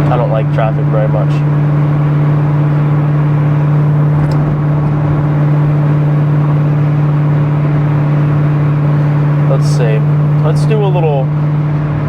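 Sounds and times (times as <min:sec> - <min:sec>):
car engine cruising: 0:00.0 - 0:12.0
road noise: 0:00.0 - 0:12.0.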